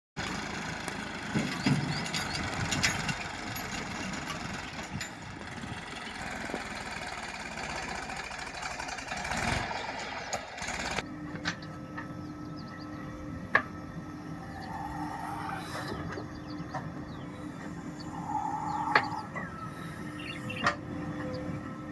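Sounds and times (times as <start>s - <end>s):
tractor engine running: 0.2s - 21.9s.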